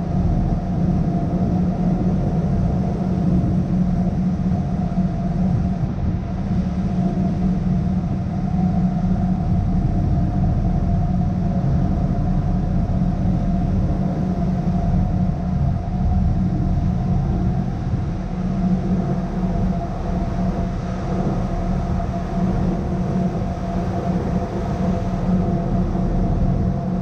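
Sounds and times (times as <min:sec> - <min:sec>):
boat engines droning: 0:00.0 - 0:27.0.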